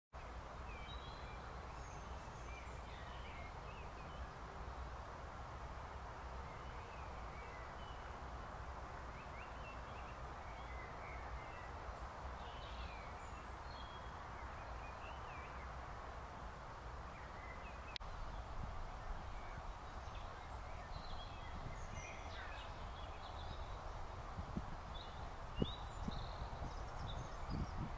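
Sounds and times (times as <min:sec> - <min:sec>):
songbirds chirping: 0:00.2 - 0:27.9
steady hiss and low rumble: 0:00.2 - 0:27.9.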